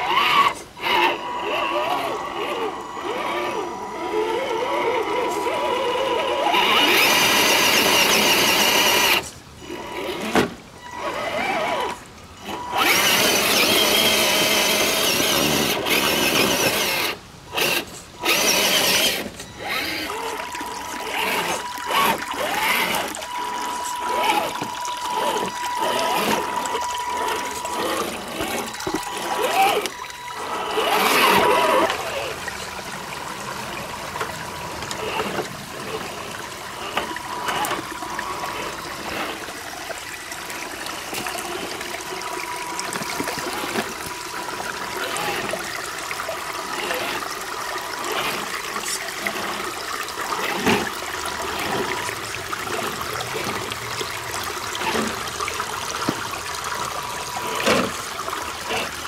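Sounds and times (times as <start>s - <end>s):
electric motor and gears whining: 0.0s - 59.0s
water splashing and trickling: 0.0s - 59.0s.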